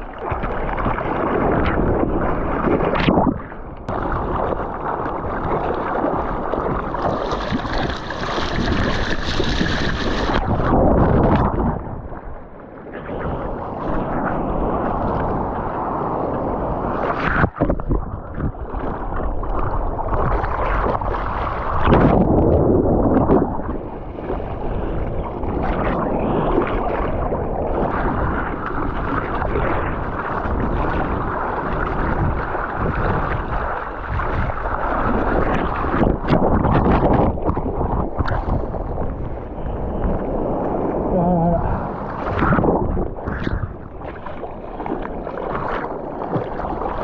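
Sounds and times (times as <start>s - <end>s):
sea water rushing and sloshing: 0.0s - 47.0s
wind buffeting microphone: 0.0s - 47.0s.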